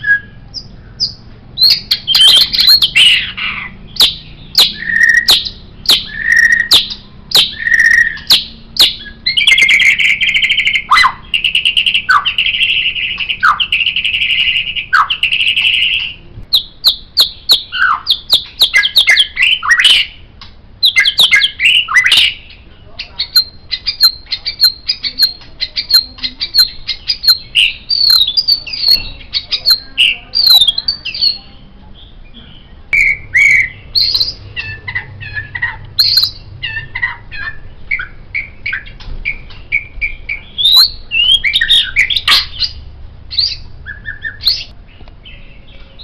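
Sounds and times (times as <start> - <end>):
bird singing varied song: 0.0 - 46.0.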